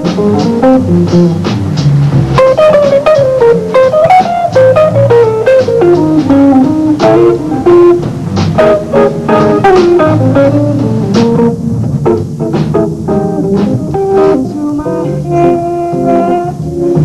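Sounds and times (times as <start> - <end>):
bass line: 0.0 - 17.0
plucked guitar melody: 0.0 - 17.0.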